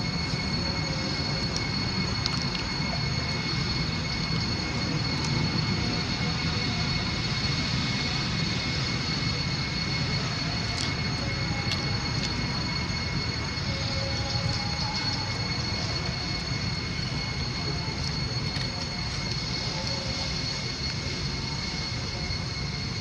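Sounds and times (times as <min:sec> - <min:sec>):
faint high-pitched tones: 0:00.0 - 0:23.0
steady rumbling noise: 0:00.0 - 0:23.0.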